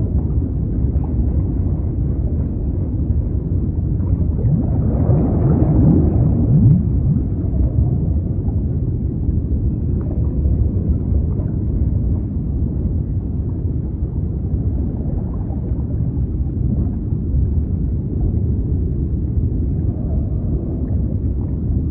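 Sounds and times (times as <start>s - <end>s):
deep underwater rumbling wash: 0.0s - 21.9s.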